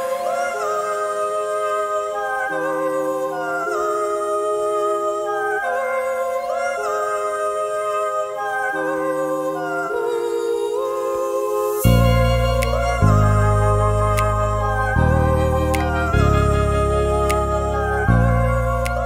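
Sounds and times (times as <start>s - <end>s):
background music with sliding melody: 0.0s - 19.0s.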